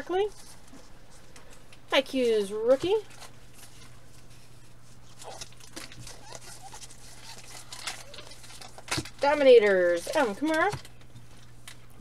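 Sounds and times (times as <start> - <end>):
steady low hum: 0.0 - 12.0
trading cards rustling and clicking: 0.2 - 11.8.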